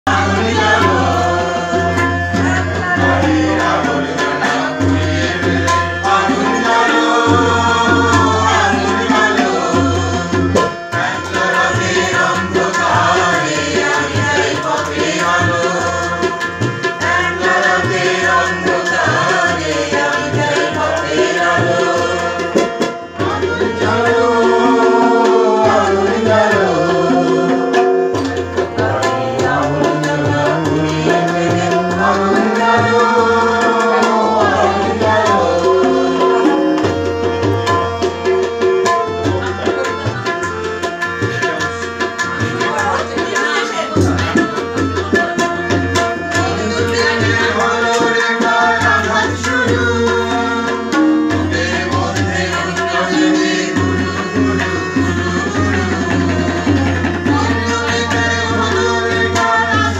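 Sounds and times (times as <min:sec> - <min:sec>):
person singing: 0:00.0 - 0:37.3, 0:46.1 - 0:59.9
tabla drum strokes: 0:00.1 - 0:59.9.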